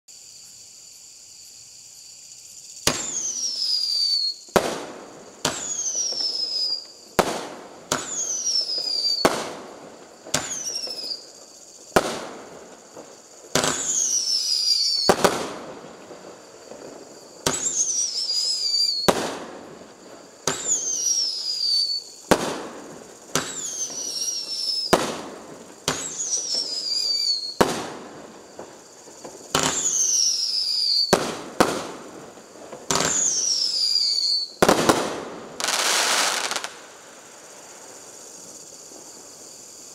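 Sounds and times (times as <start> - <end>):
firework bangs: 2.8 - 39.9.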